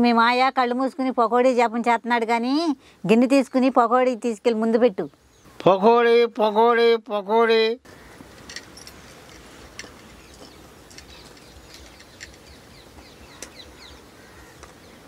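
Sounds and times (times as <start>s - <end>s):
birds chirping: 1.4s - 6.9s, 7.9s - 15.0s.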